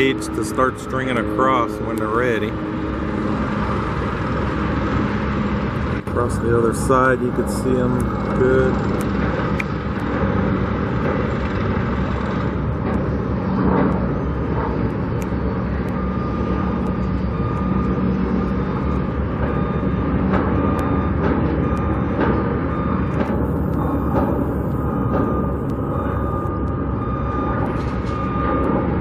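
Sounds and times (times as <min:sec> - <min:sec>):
rumble of vehicles and machinery: 0:00.0 - 0:29.0.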